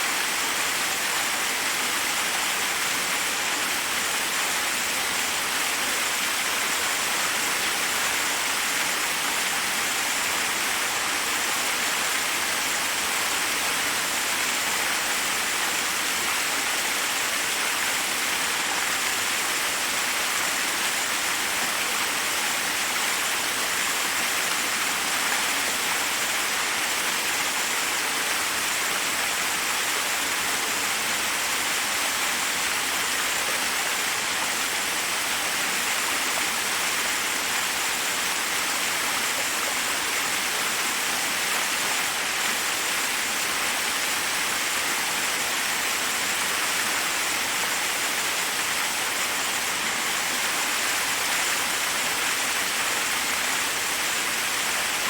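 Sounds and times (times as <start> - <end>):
waterfall pouring over rocks: 0.0 - 55.0.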